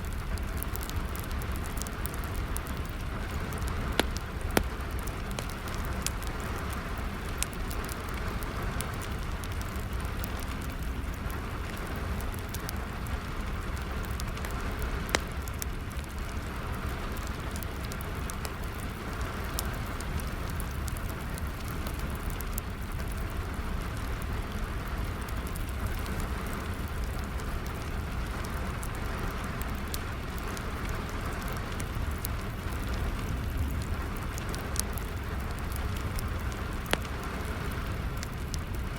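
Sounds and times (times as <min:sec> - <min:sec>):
crackling wood fire pops: 0:00.0 - 0:38.9
steady rain falling: 0:00.0 - 0:38.9.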